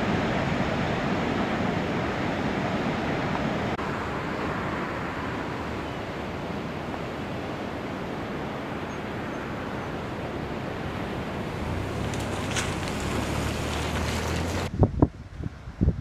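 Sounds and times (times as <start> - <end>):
ocean surf: 0.0 - 14.7
wind: 0.0 - 16.0.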